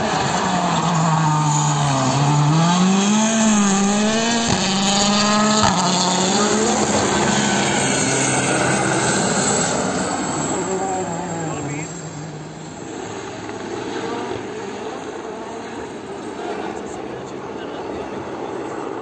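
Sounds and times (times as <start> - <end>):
rally car engine revving: 0.0 - 18.9.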